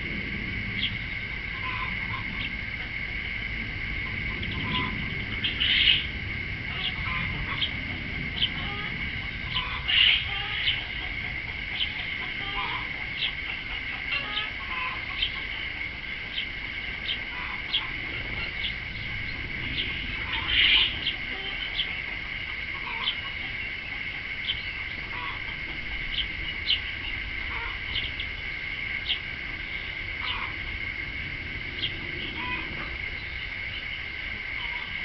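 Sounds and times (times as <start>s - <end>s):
high-pitched drone: 0.0s - 35.0s.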